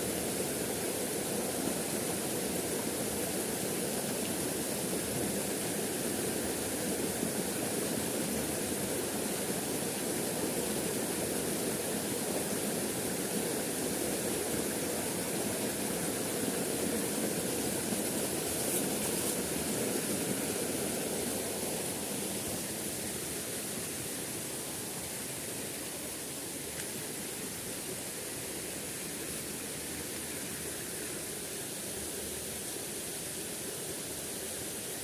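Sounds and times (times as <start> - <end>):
small river flowing: 0.0 - 35.0.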